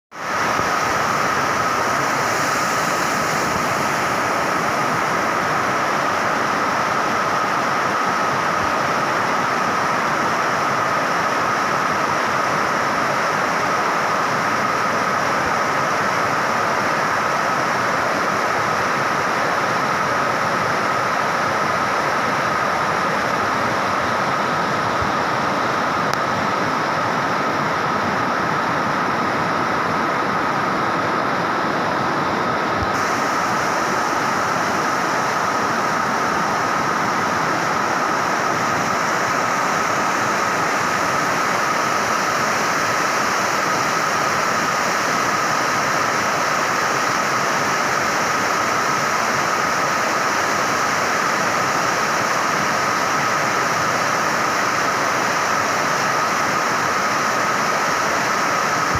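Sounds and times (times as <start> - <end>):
water rushing over rocks: 0.1 - 58.9.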